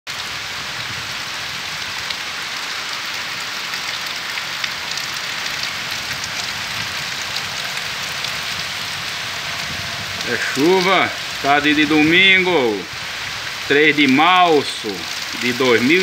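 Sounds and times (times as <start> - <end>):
heavy rain falling: 0.1 - 16.0.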